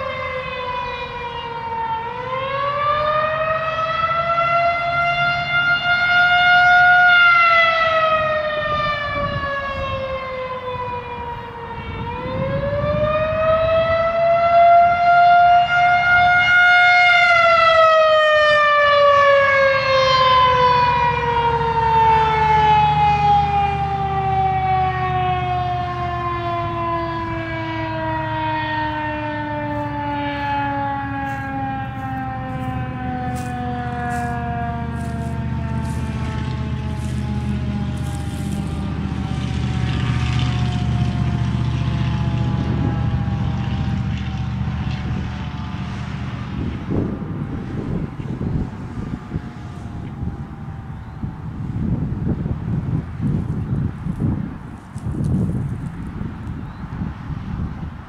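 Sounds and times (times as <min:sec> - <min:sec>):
warning siren wailing: 0:00.0 - 0:58.0.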